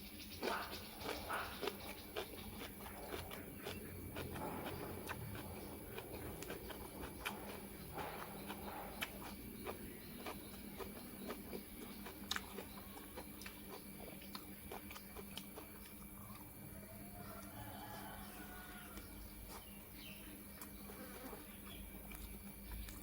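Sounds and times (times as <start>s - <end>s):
faint steady hum: 0.0s - 23.0s
person chewing crunchy food: 0.4s - 23.0s.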